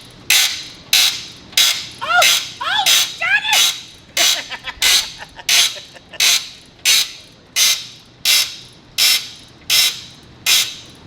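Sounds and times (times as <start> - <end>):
rhythmic ringing hammering: 0.0 - 11.0.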